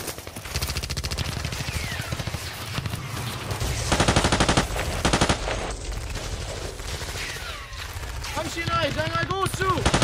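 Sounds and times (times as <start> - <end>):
machine-gun fire: 0.0 - 10.0.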